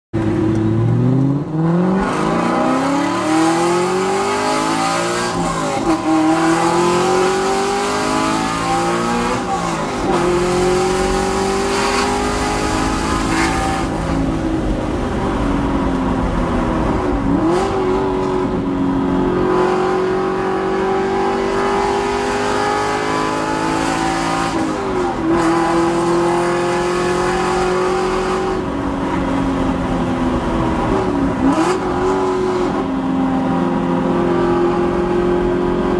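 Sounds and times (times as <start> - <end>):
car engine accelerating through gears: 0.2 - 35.9.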